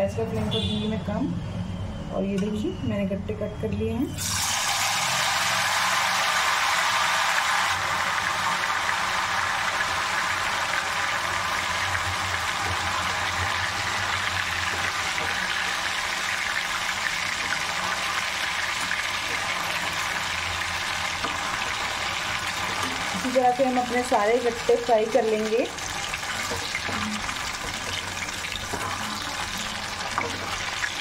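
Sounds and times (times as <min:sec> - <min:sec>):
food deep-frying in hot oil: 0:04.2 - 0:31.0.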